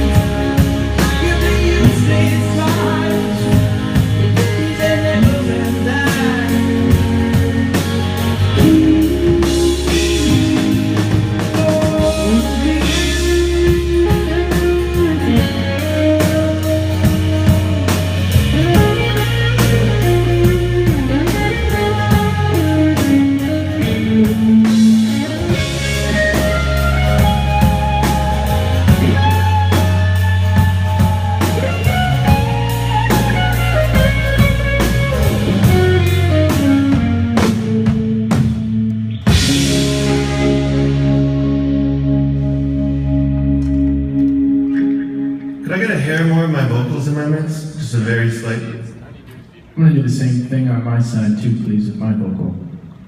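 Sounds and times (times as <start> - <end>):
drum kit beat: 0.0 - 45.3
bass line: 0.0 - 49.0
guitar melody: 0.0 - 49.8.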